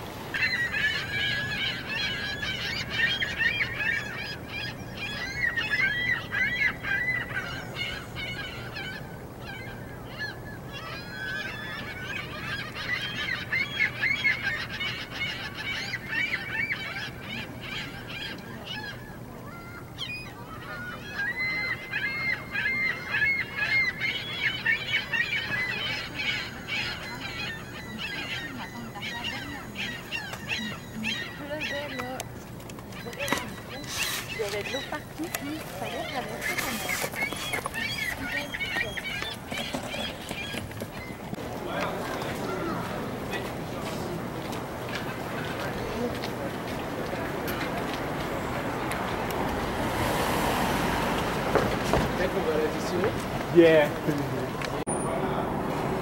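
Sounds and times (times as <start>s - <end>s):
gulls squawking: 0.0s - 55.7s.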